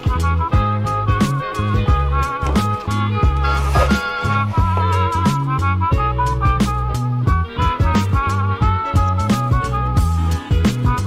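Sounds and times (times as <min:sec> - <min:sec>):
upbeat swing-funk music: 0:00.0 - 0:11.0.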